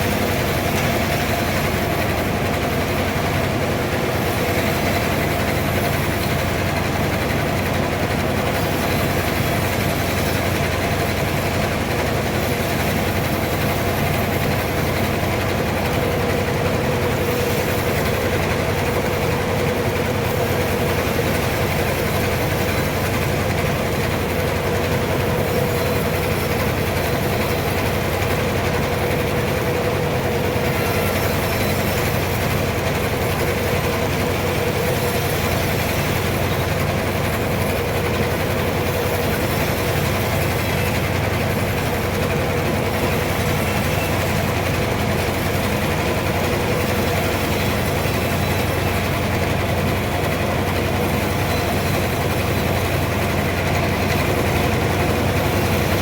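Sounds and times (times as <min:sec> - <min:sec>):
sawmill machinery drone: 0:00.0 - 0:56.0
steady machinery whine: 0:00.0 - 0:56.0.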